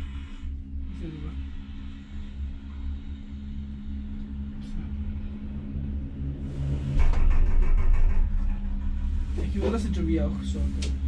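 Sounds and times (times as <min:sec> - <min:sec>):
gondola cabin humming: 0:00.0 - 0:11.0.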